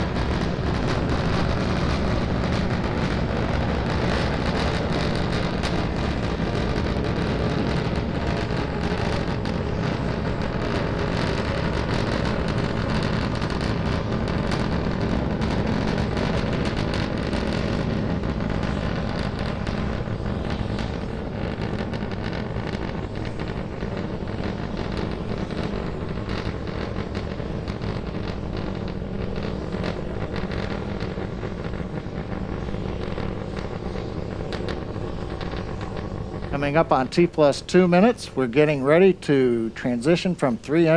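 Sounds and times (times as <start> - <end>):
rocket engines roaring: 0.0 - 40.9.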